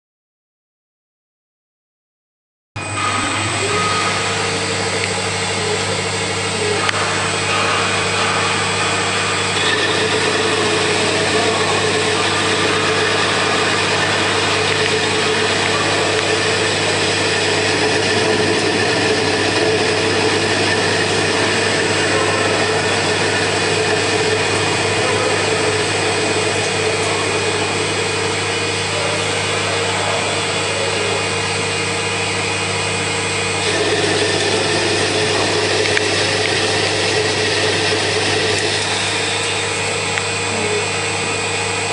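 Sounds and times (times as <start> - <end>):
lathe machine hum with whine: 2.8 - 41.9.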